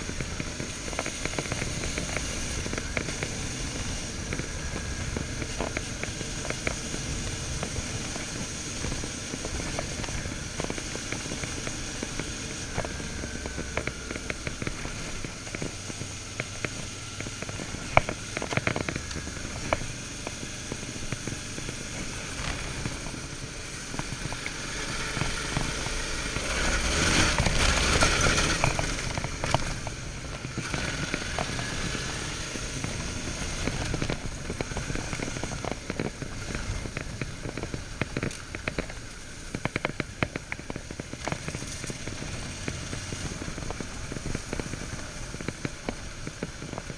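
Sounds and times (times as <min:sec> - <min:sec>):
crackling clicks and rattles: 0:00.0 - 0:46.9
motorcycle engine running: 0:00.0 - 0:46.9.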